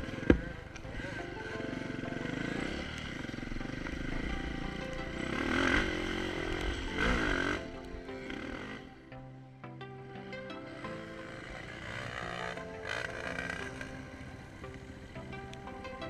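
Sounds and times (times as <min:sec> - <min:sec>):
motorcycle engine revving: 0:00.0 - 0:09.3, 0:10.0 - 0:16.0.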